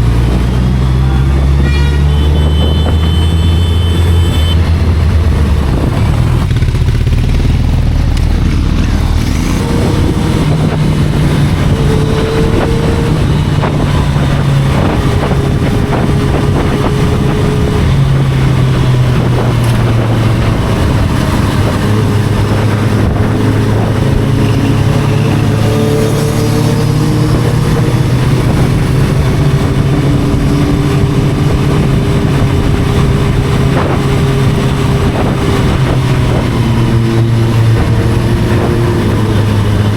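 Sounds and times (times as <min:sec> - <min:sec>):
sport motorcycle engine revving: 0:00.0 - 0:39.9.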